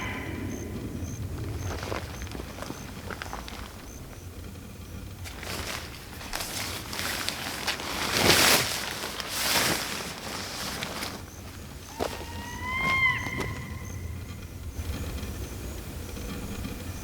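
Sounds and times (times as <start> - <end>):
leaves and brush rustling: 0.0 - 17.0.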